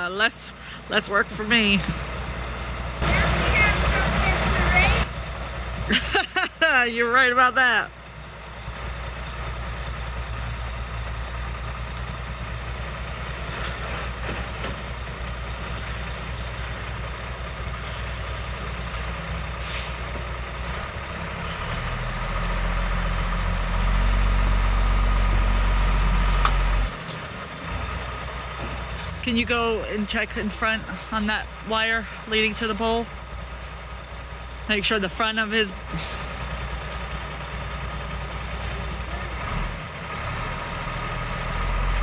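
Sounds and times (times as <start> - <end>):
truck engine running: 0.0 - 42.0.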